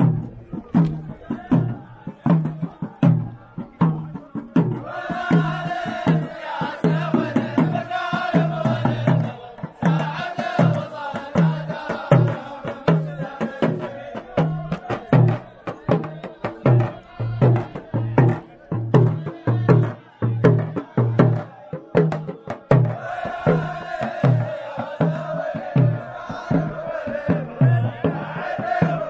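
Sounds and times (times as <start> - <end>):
drum beat: 0.0 - 29.0
men chanting together: 0.0 - 29.0.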